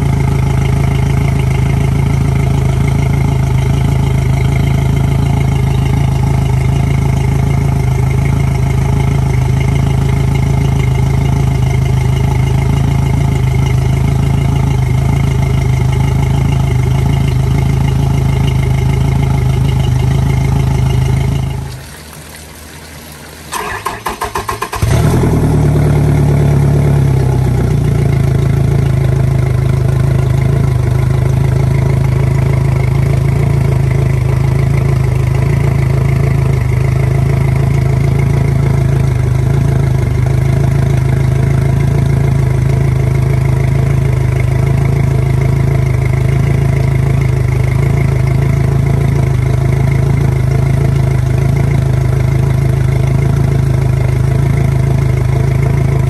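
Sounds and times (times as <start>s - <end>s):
outboard motor idling: 0.0s - 56.0s.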